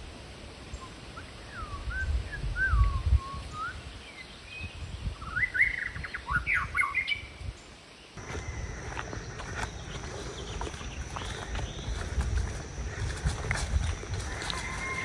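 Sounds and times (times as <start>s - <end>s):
songbird singing: 0.0s - 15.0s
wind noise on microphone: 1.2s - 15.0s.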